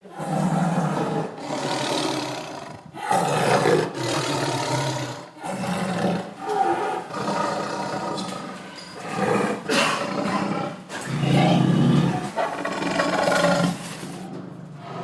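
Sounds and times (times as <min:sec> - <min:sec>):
tiger roaring: 0:00.0 - 0:15.0.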